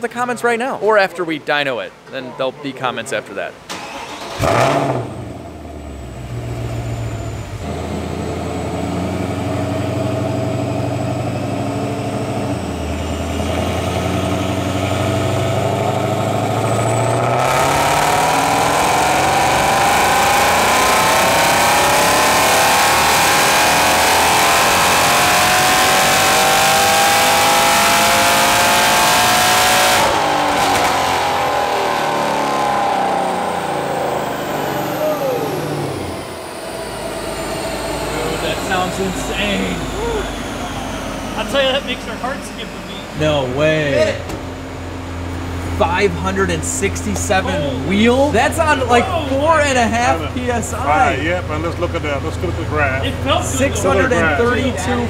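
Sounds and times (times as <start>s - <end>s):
car engine revving on dyno: 3.7s - 55.0s.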